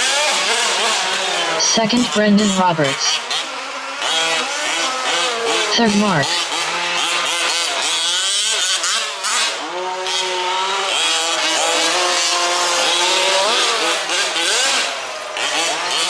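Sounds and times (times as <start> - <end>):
small two-stroke engines racing: 0.0 - 16.0.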